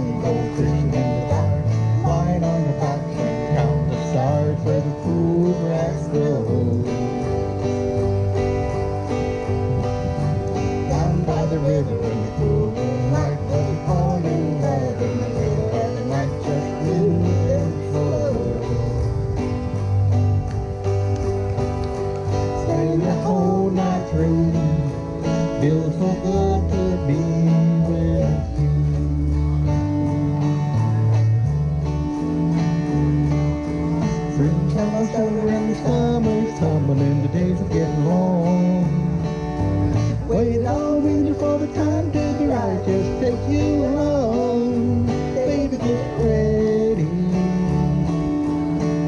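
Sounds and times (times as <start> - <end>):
acoustic guitars strumming: 0.0 - 49.0
plucked melody line: 0.0 - 49.0.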